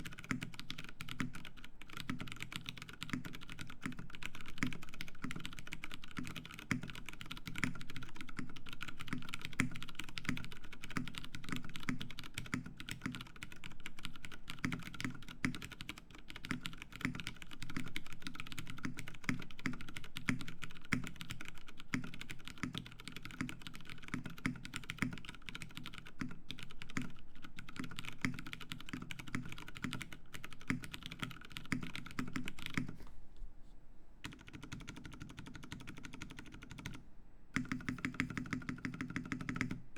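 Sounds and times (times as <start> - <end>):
typing on mechanical keyboard: 0.0 - 33.0, 34.2 - 37.0, 37.6 - 39.8.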